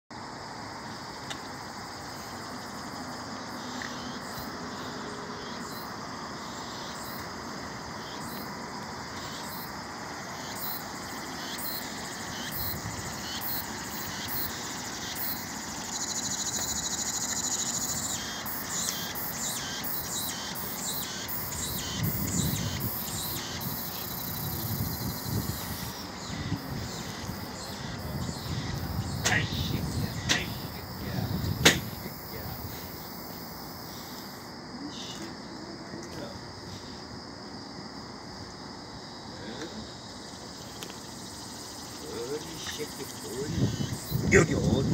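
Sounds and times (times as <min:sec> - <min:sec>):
insects chirping: 0:00.1 - 0:44.9
distant city hum: 0:00.2 - 0:44.9
high insect buzz: 0:00.2 - 0:44.9.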